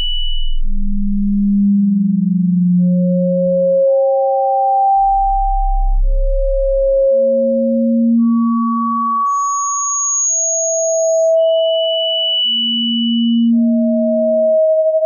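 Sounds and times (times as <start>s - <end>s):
pure sine tones: 0.0s - 15.0s.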